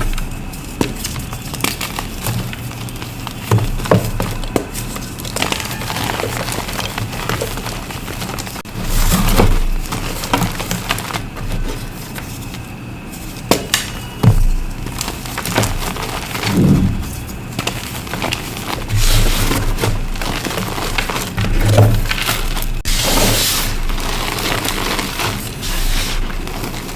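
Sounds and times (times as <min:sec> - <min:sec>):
chalk crunching and crumbling: 0:00.0 - 0:26.9.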